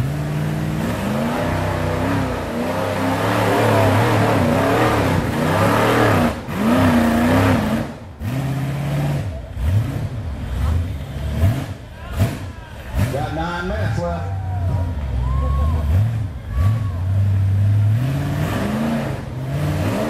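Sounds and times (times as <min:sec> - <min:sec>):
buggy engine revving hard: 0:00.0 - 0:20.0.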